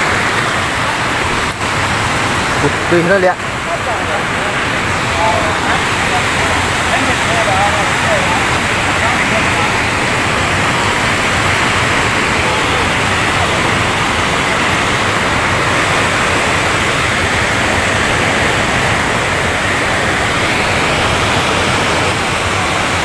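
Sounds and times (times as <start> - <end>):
water rushing over weir: 0.0 - 23.0.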